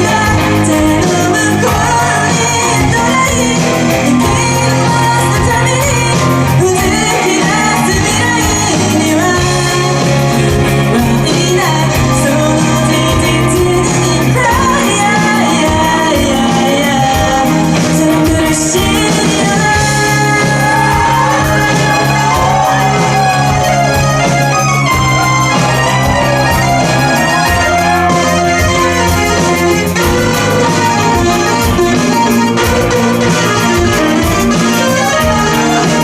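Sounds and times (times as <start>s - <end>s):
lead singer singing: 0.0s - 36.0s
live rock band playing: 0.0s - 36.0s.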